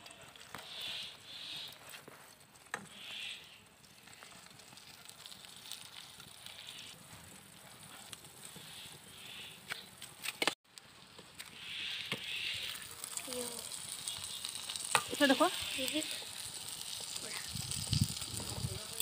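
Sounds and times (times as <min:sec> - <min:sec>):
egg sizzling in frying pan: 0:03.6 - 0:19.0.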